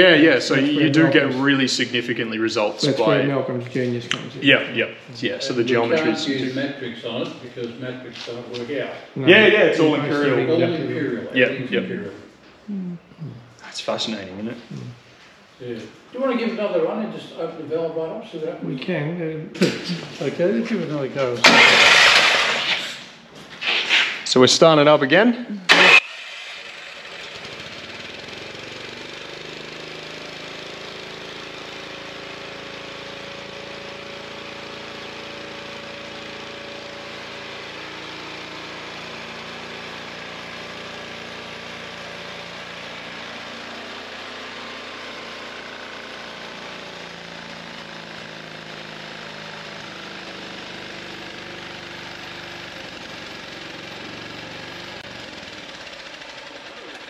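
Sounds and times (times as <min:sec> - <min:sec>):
engine running: 0:00.0 - 0:18.4, 0:19.6 - 0:25.0, 0:25.7 - 0:57.0.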